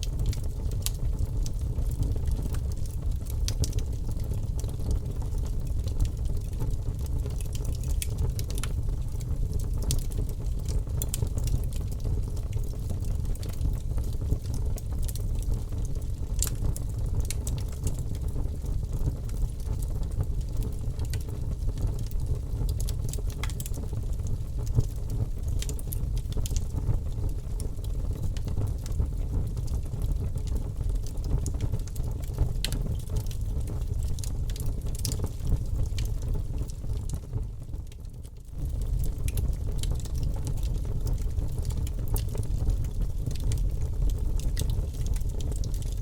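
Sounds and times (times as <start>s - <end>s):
bonfire flames rumbling: 0.0s - 46.0s
burning wood crackling and popping: 0.0s - 46.0s.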